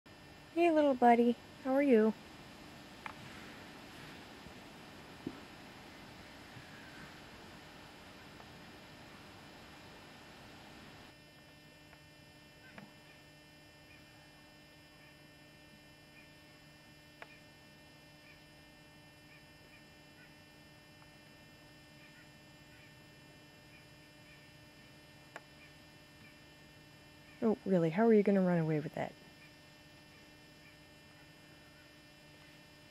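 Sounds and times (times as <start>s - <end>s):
low electrical hum: 0.1s - 32.9s.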